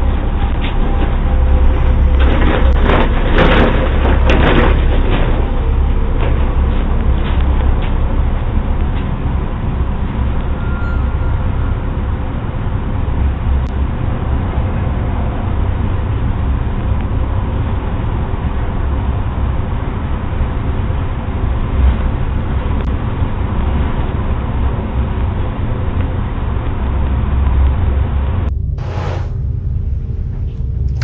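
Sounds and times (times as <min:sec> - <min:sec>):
steady muffled rumbling: 0:00.0 - 0:31.0.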